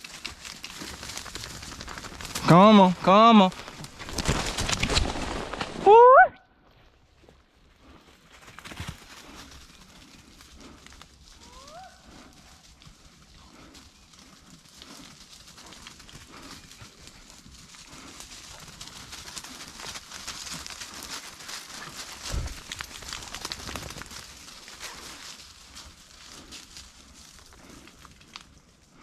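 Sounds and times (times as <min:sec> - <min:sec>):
dogs rustling through dry leaves: 0:00.0 - 0:05.8, 0:08.7 - 0:29.0.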